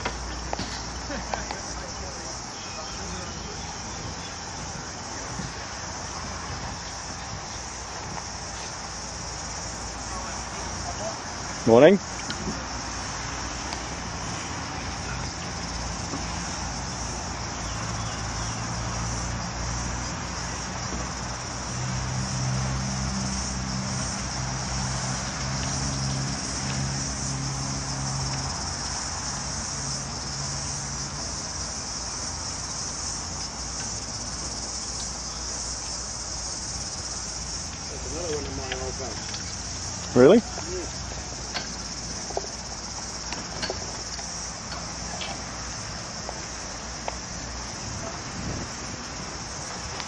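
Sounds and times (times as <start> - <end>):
engine humming: 0.0 - 50.0
high-pitched insect chorus: 0.0 - 50.0.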